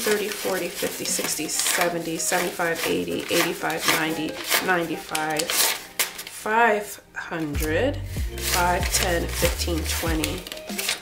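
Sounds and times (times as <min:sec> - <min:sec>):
paper bills being flicked: 0:00.0 - 0:06.4, 0:08.4 - 0:11.0.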